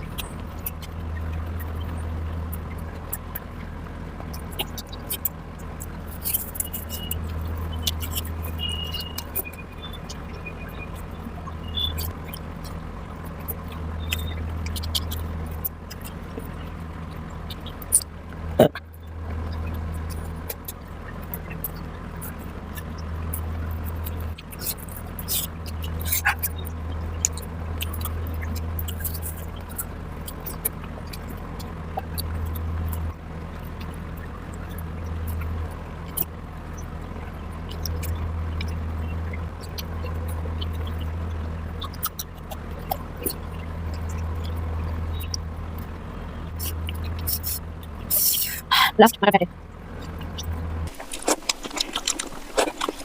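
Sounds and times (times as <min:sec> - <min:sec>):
person eating wet clicks: 0:04.2 - 0:10.2, 0:11.0 - 0:36.4, 0:37.6 - 0:48.7, 0:50.0 - 0:53.0.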